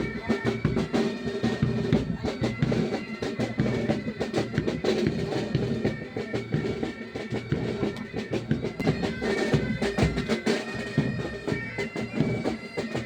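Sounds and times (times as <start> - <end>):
bagpipes playing melody: 0.0 - 13.0
snare and bass drums beating: 0.0 - 13.0.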